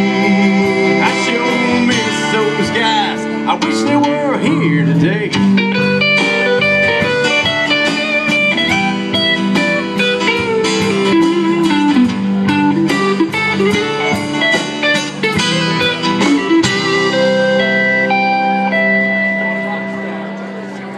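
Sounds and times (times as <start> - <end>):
steady drumbeat: 0.0 - 19.4
bass guitar: 0.0 - 20.9
electric guitar lead with bends: 0.0 - 20.9
strummed acoustic guitars: 0.0 - 20.9.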